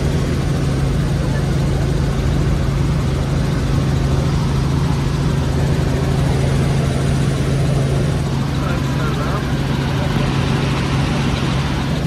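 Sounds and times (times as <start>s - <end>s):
helicopter rotor and engine drone: 0.0s - 12.0s.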